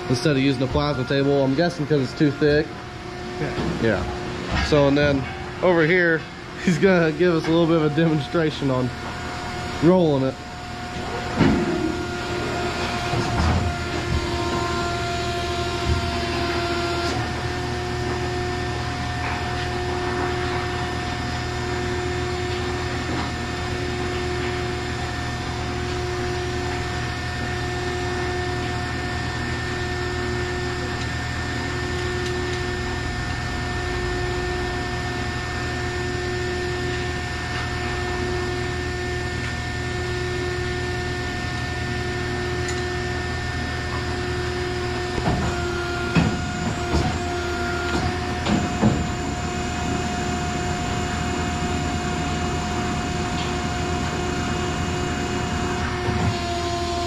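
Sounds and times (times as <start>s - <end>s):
hydraulic machine humming: 0.0s - 57.0s.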